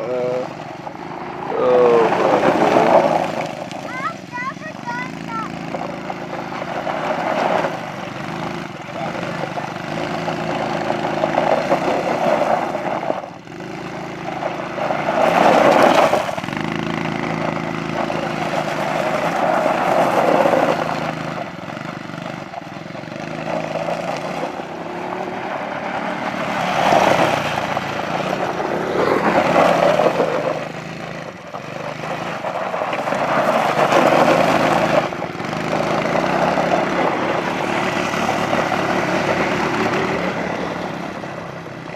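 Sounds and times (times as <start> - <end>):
atv engines revving: 0.0 - 41.9.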